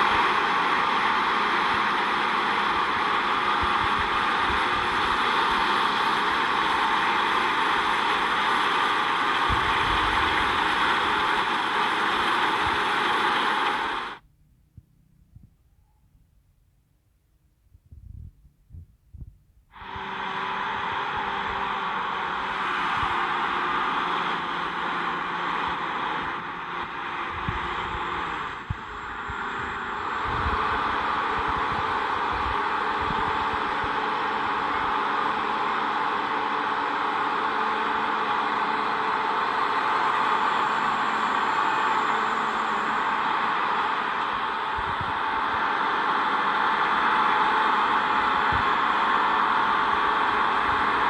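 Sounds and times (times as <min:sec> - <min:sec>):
combine harvester running: 0:00.0 - 0:14.2, 0:19.8 - 0:51.0.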